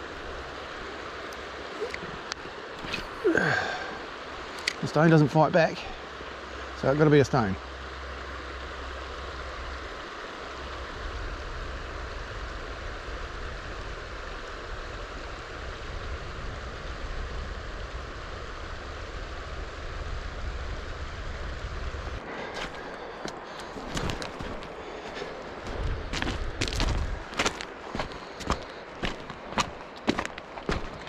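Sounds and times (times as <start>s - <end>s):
river flowing over stones: 0.0s - 16.4s, 22.2s - 31.0s.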